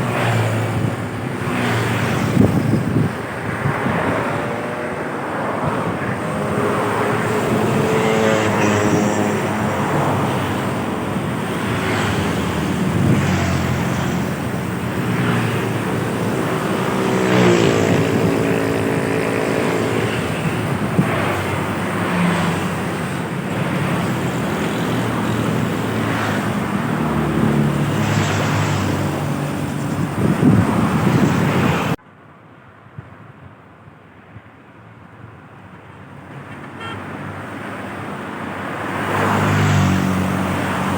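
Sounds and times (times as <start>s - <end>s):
heavy trucks and buses passing: 0.0s - 40.9s
tyre and road noise: 0.0s - 40.9s.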